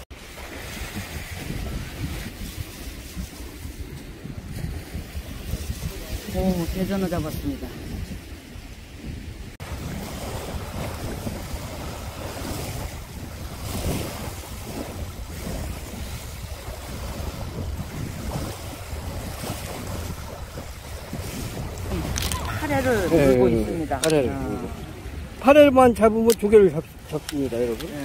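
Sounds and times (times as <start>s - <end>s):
small waves washing on shore: 0.0s - 28.0s
wind buffeting microphone: 0.0s - 28.0s.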